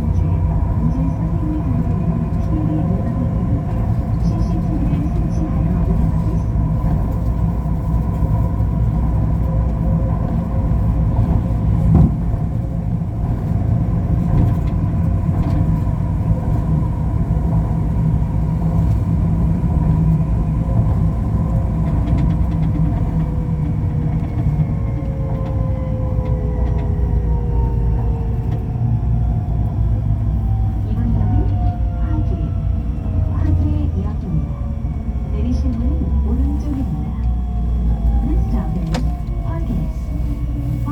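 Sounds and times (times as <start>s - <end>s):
train rumble with motor whine: 0.0s - 40.9s.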